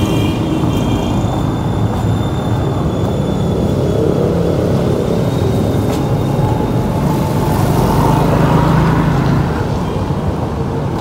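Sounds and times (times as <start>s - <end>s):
vehicle rumble on wet street: 0.0s - 11.0s.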